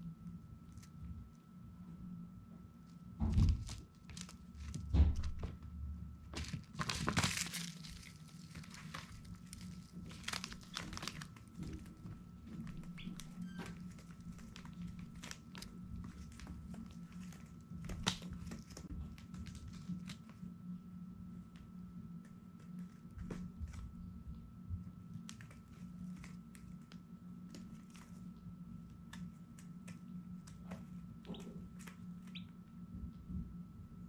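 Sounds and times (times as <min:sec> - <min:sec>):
steady low hum: 0:00.0 - 0:34.0
rustling and crinkling: 0:00.2 - 0:33.6.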